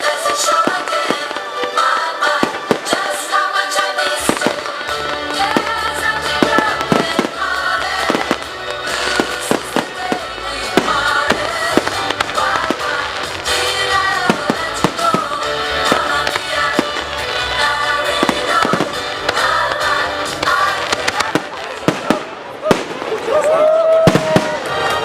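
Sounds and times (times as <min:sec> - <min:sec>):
fireworks bangs and crackles: 0:00.0 - 0:25.0
loud music: 0:00.0 - 0:25.0.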